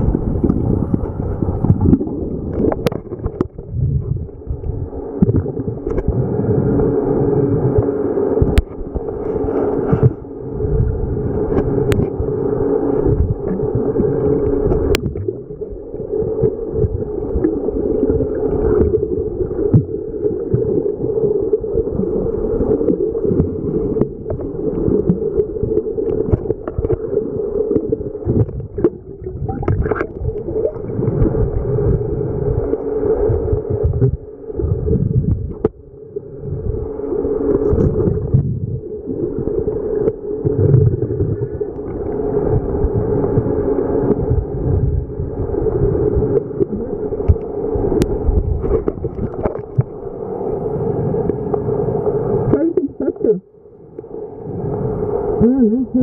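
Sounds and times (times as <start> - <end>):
steady hum: 0.0 - 56.0
underwater rumble: 0.0 - 56.0.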